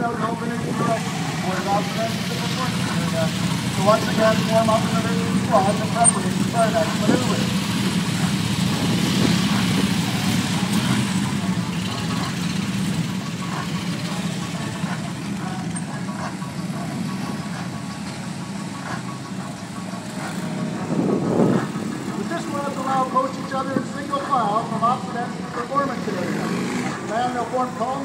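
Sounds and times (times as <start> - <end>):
motorcycle engines droning: 0.0 - 28.0.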